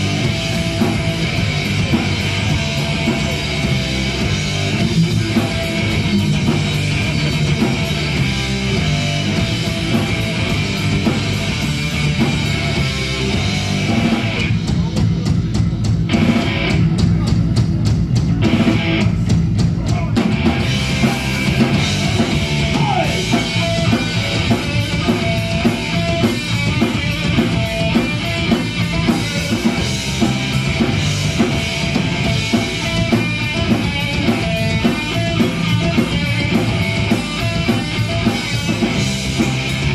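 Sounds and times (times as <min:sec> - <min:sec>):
drum kit: 0:00.0 - 0:39.9
electric guitar: 0:00.0 - 0:39.9
live rock band playing: 0:00.0 - 0:39.9.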